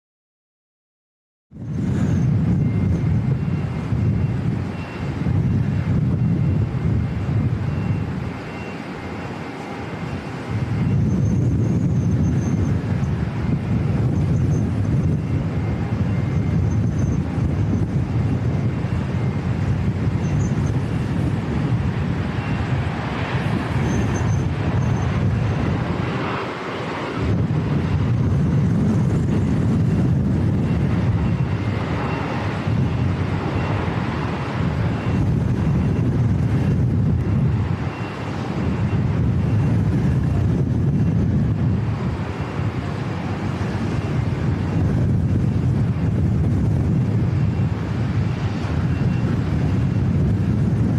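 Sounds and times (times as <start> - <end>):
gusty wind on microphone: 1.5 - 50.9.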